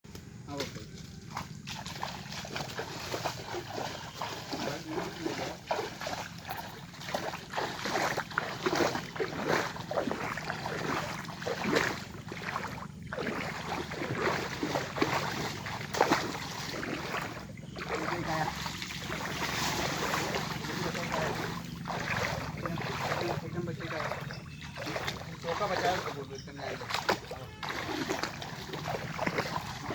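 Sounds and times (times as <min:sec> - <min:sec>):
water splashing and sloshing: 0:00.1 - 0:29.9.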